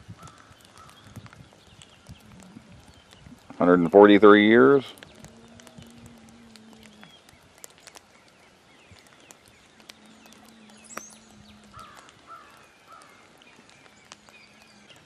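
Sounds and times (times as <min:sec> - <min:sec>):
light rain ticking: 0:00.0 - 0:15.0
faint bird calls: 0:00.1 - 0:15.0
bird chirps: 0:00.6 - 0:15.0.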